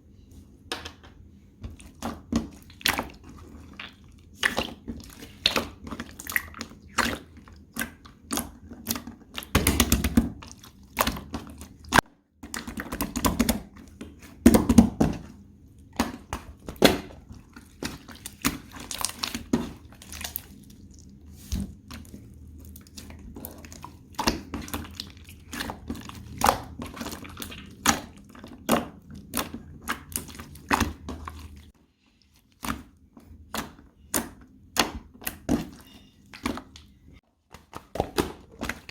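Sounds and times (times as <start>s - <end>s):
slime squishing by hand: 0.6s - 38.9s.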